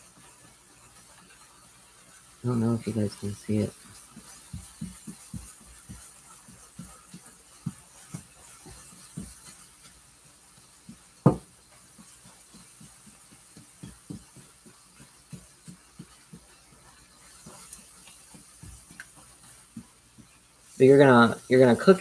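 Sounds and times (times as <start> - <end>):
faint steady hiss: 0.0 - 22.0
spatula scraping frying pan: 0.0 - 22.0.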